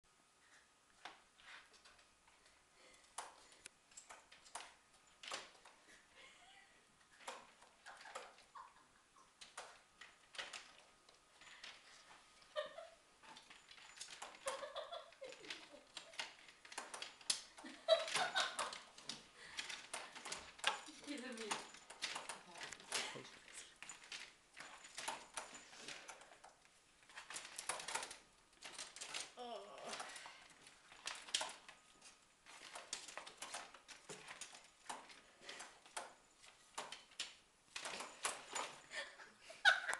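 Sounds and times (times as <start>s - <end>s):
wooden baby gate rattling: 7.2s - 8.7s, 9.4s - 39.9s.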